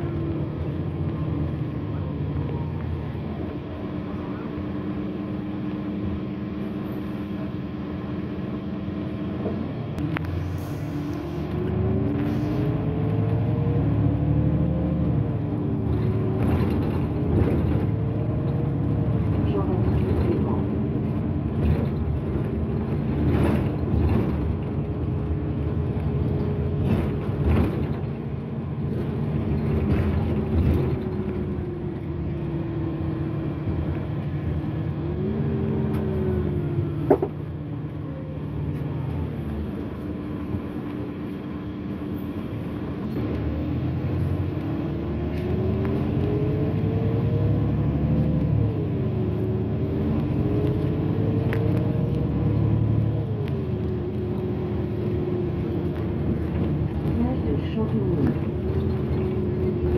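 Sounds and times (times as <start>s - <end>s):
bus engine running: 0.0s - 59.9s
road rumble: 0.0s - 59.9s.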